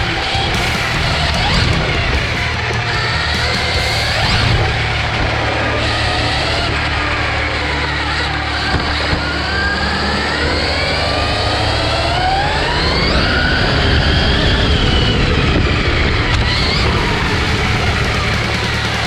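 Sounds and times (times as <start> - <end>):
electric motor and gears whining: 0.0 - 19.0.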